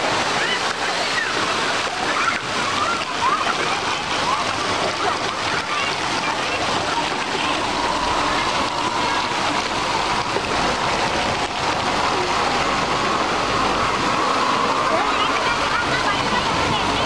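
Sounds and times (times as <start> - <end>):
water splashing into pool: 0.0 - 17.0.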